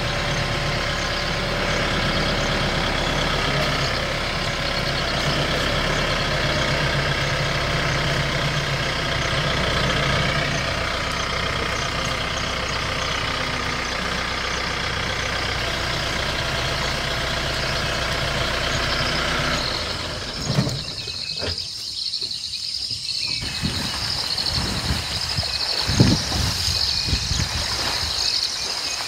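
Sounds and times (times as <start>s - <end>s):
crickets chirping: 0.0s - 29.0s
vehicle engine running: 0.0s - 29.0s.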